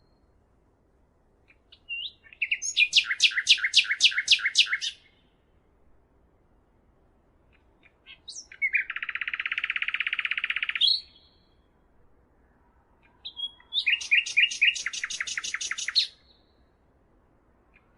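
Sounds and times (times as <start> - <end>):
songbird singing: 0.0 - 0.6, 1.4 - 5.8, 7.4 - 17.9.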